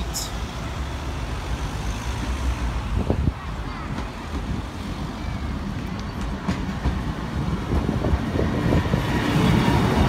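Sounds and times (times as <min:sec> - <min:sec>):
diesel train passing rumble: 0:00.0 - 0:10.0.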